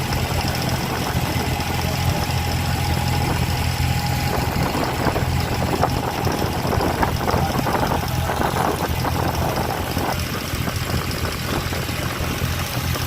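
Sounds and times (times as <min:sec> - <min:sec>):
boat diesel engine droning: 0:00.0 - 0:13.0.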